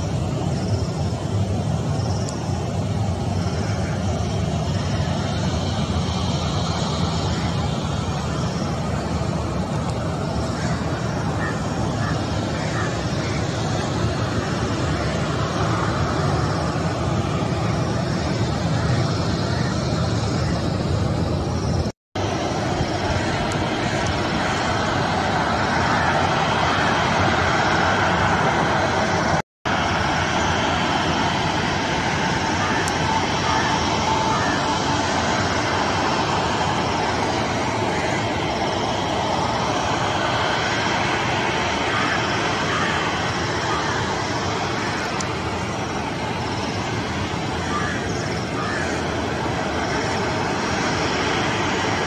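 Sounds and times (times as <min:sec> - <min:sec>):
jet engines rumbling: 0:00.0 - 0:52.0
outdoor noise: 0:00.0 - 0:52.0.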